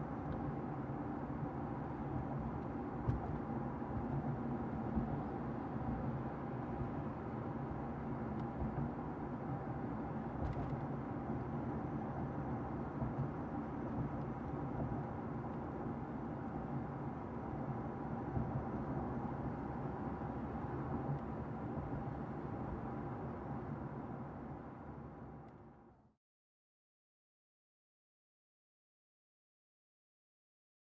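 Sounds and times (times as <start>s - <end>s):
car cabin road and engine rumble: 0.0s - 25.4s.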